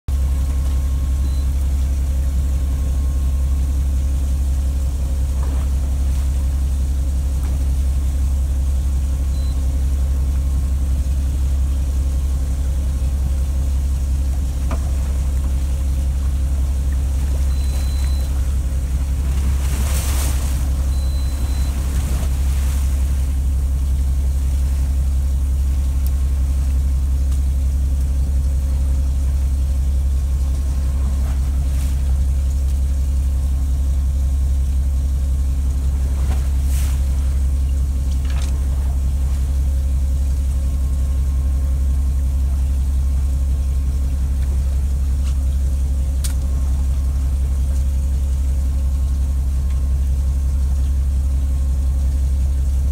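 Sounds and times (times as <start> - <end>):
boat engine idling: 0.1 - 52.9.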